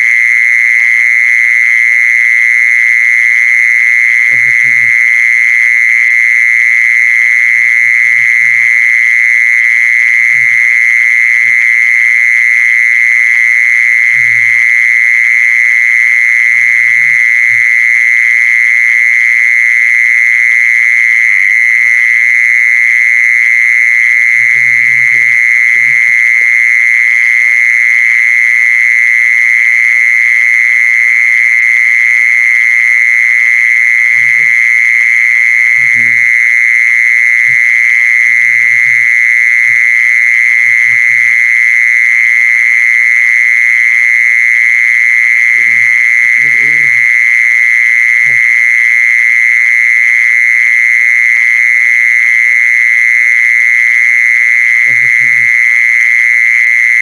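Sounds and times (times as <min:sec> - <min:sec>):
mole cricket trill: 0:00.0 - 0:57.0.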